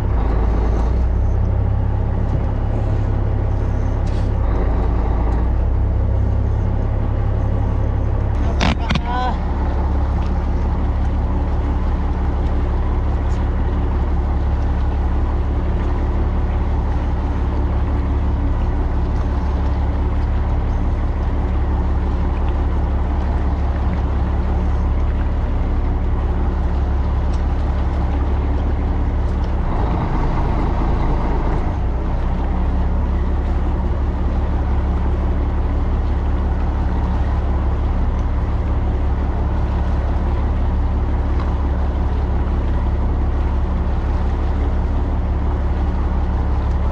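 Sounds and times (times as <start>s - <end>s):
boat engine droning: 0.0s - 46.9s.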